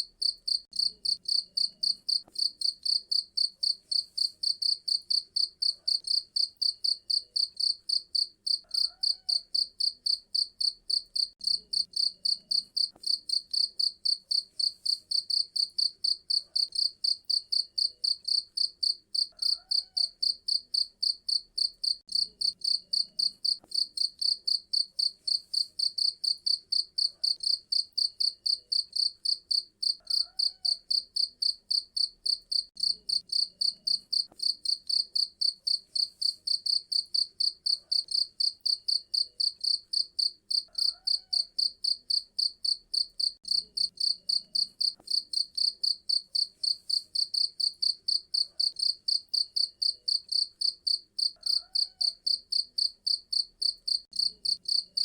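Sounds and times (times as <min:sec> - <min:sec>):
cricket chirping: 0:00.2 - 0:55.0.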